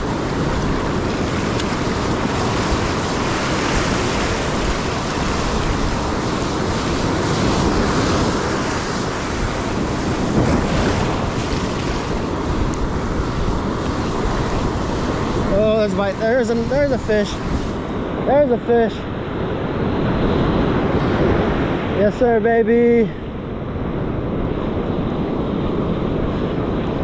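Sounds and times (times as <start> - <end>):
ocean surf breaking: 0.0 - 27.0
wind on microphone: 0.0 - 27.0.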